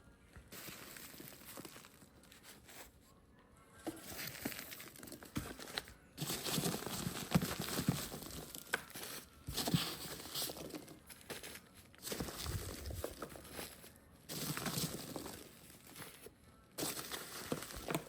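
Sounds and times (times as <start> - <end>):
packaging crinkling and rustling: 0.6 - 2.9, 3.9 - 18.0.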